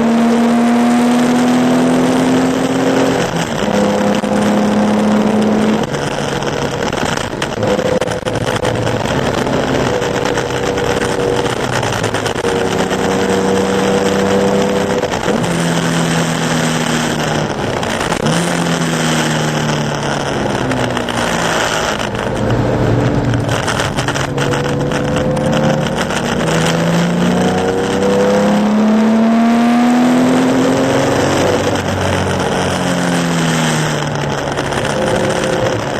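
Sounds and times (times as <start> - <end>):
racing car engine: 0.0 - 35.9.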